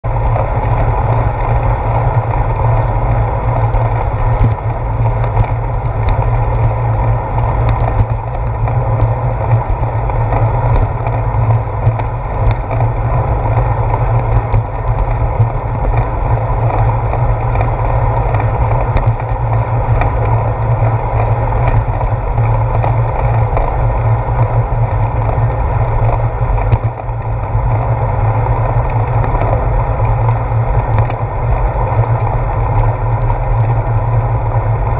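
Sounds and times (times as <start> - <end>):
wind and road rumble: 0.0 - 34.9
bicycle clicks and rattles: 0.1 - 34.9.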